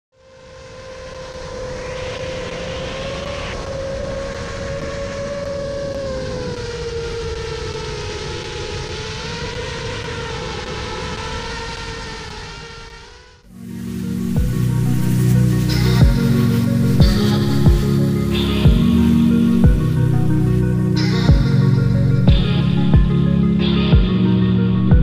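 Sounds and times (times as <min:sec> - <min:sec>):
rushing noise: 0:00.3 - 0:25.0.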